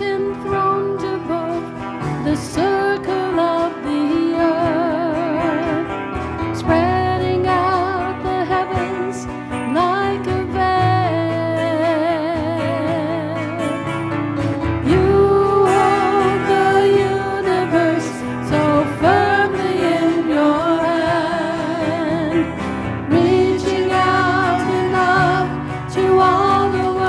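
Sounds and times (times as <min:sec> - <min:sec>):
guitar accompaniment: 0:00.0 - 0:27.0
person singing with vibrato: 0:00.0 - 0:27.0.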